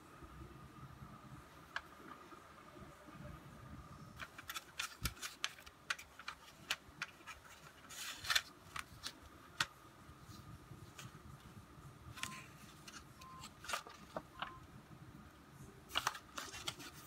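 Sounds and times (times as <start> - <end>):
faint high whine: 0.0 - 4.5, 7.6 - 17.0.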